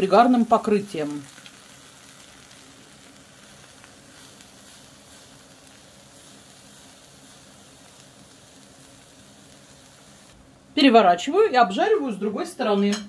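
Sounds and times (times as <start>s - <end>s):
eggplant sizzling in a pan: 0.0s - 13.0s.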